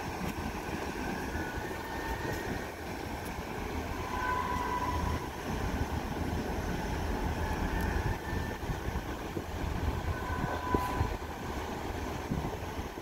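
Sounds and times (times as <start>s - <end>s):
faint whining tones: 0.0s - 12.6s
ship engines rumbling: 0.0s - 13.0s
water churning: 0.0s - 13.0s.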